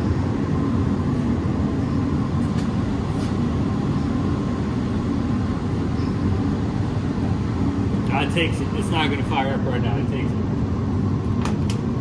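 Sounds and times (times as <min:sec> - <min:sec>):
heater blower running: 0:00.0 - 0:12.0.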